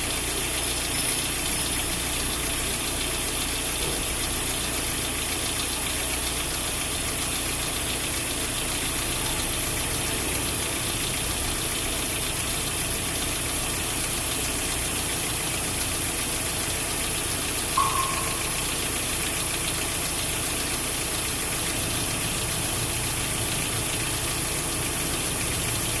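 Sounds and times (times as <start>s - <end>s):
car engine idling: 0.0s - 26.0s
engine clicking noise: 0.0s - 26.0s.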